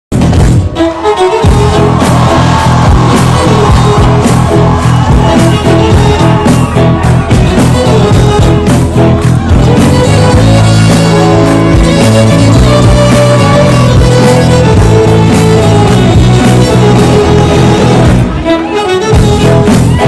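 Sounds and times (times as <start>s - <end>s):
background music with beat and bass: 0.1s - 20.0s.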